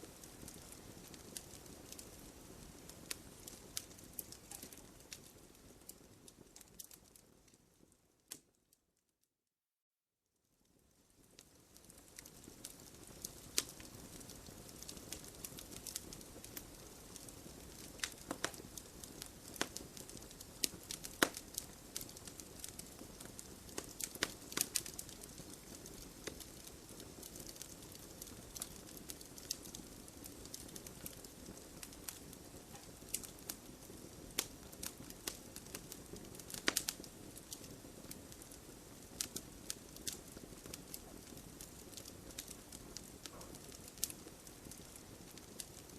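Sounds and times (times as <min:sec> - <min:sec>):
wood fire crackling: 0:00.0 - 0:08.7, 0:10.6 - 0:45.9.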